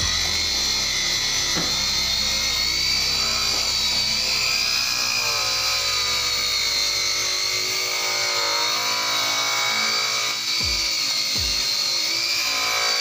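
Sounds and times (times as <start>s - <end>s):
rotary polisher whining: 0.0s - 13.0s.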